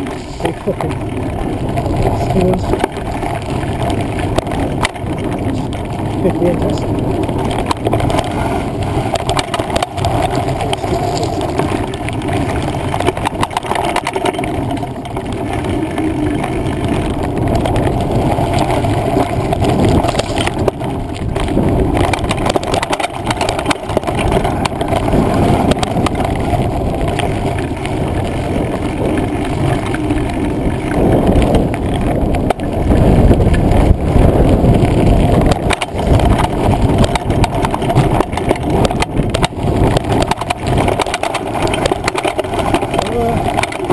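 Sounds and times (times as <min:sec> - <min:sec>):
wind and tyres rumbling: 0:00.0 - 0:43.9
bike knocks and rattles: 0:06.9 - 0:43.9.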